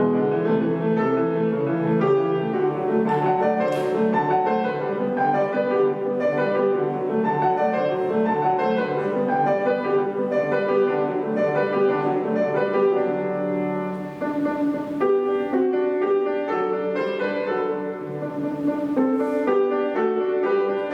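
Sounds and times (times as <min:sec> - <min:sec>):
solo piano classical piece: 0:00.0 - 0:20.9.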